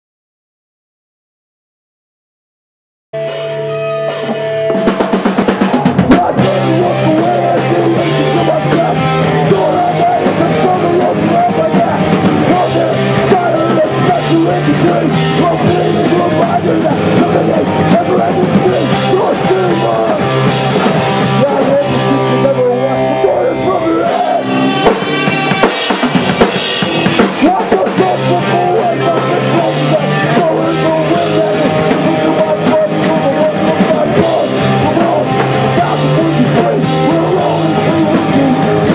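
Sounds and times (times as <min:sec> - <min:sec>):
bass guitar: 0:03.2 - 0:38.9
distorted electric guitar: 0:03.2 - 0:38.9
pounding drum kit: 0:03.2 - 0:38.9.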